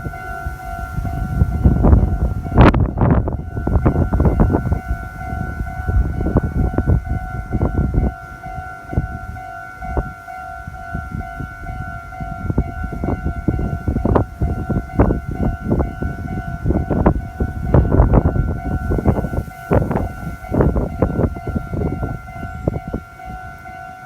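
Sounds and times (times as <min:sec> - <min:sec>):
level crossing bell ringing: 0:00.0 - 0:24.0
train rumbling: 0:00.0 - 0:24.0.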